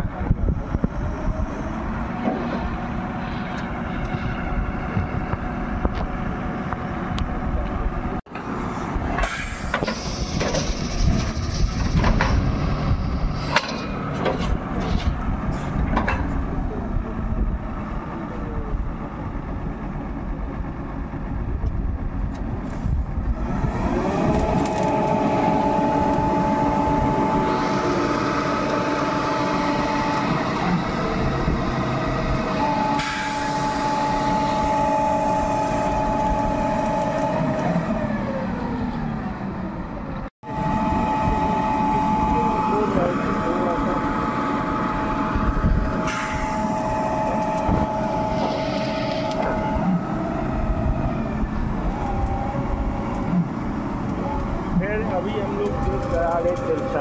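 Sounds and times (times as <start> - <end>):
drilling rig engine running: 0.0 - 57.0.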